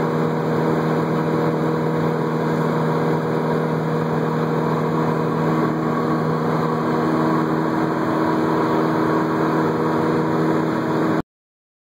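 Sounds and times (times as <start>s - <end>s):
piston engine and propeller droning: 0.0s - 11.2s.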